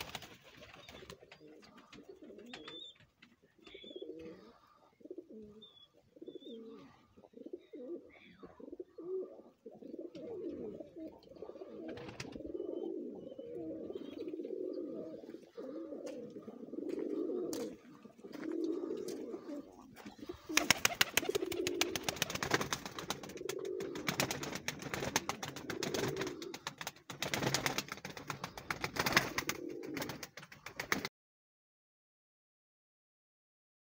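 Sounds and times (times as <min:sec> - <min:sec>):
pigeons cooing: 0:00.0 - 0:30.8.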